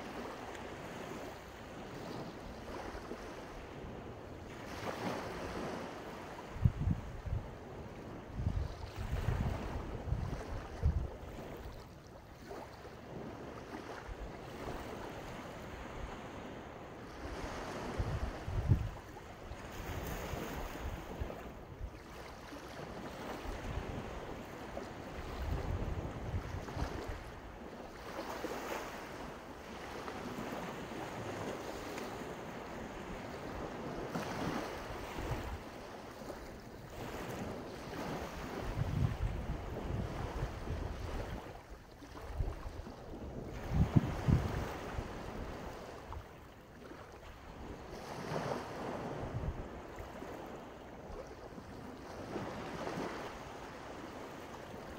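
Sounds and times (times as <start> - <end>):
sea waves breaking on shore: 0.0 - 54.9
wind rumbling on microphone: 1.8 - 12.0, 13.0 - 29.2, 30.2 - 46.5, 47.1 - 54.9.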